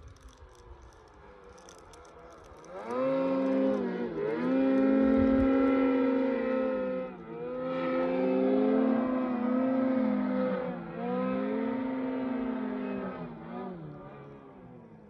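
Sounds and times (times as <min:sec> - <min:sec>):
snowmobile engine running: 0:00.0 - 0:14.9.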